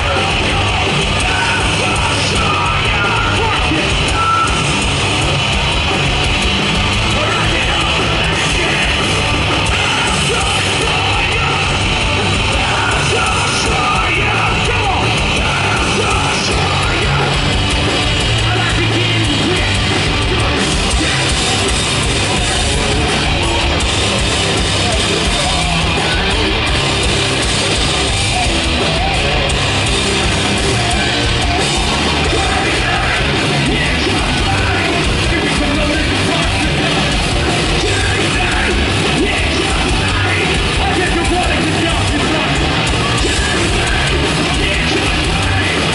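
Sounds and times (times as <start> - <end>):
shouted vocals: 0.0 - 5.7, 6.8 - 45.9
bass: 0.0 - 45.9
distorted electric guitars: 0.0 - 45.9
drums: 0.0 - 45.9.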